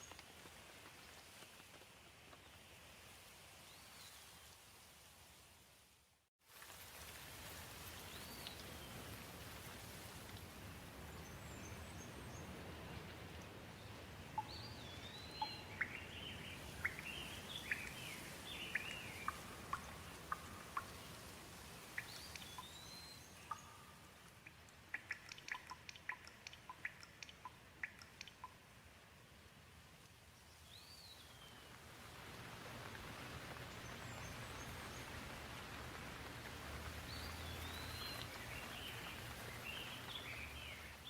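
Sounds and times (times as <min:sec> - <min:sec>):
gentle rain falling: 0:00.0 - 0:41.0.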